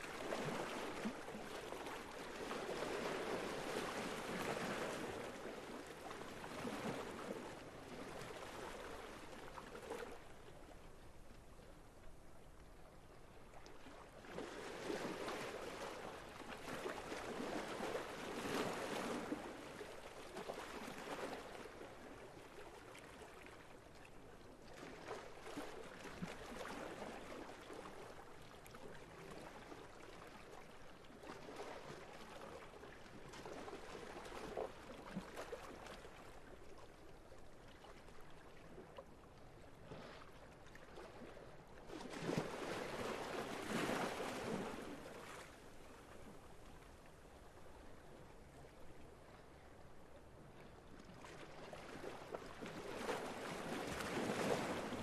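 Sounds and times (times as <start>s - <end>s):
small waves washing: 0.0s - 55.0s.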